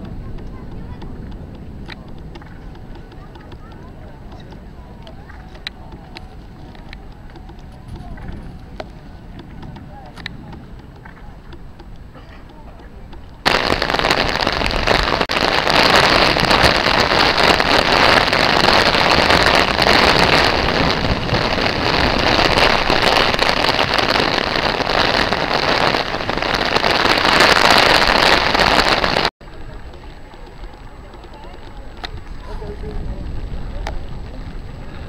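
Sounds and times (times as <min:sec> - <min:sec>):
heavy rain on pavement: 0:00.0 - 0:11.1, 0:13.2 - 0:35.0.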